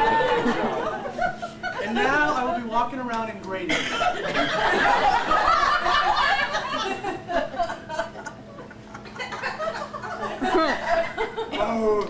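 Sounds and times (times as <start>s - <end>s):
audience laughing: 0.0s - 2.8s, 4.0s - 11.6s.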